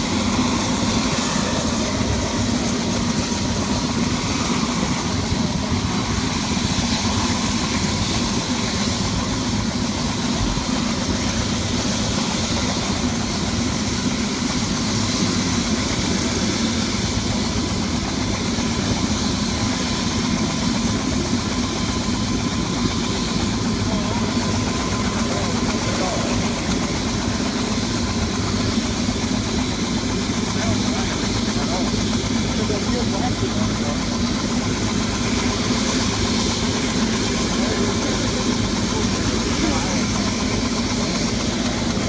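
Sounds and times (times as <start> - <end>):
helicopter rotor running: 0.0 - 42.0
high turbine whine: 0.0 - 42.0.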